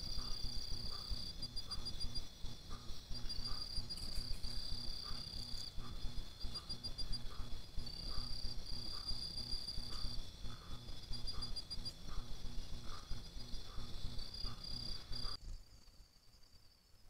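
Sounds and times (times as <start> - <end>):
soft low repeating note: 0.0 - 15.4
insects chirring: 0.0 - 17.0.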